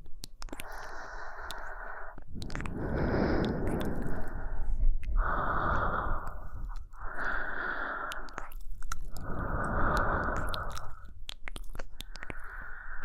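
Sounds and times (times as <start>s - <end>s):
mouth clicks: 0.0s - 13.0s
slow human breathing: 0.6s - 11.2s, 11.9s - 13.0s.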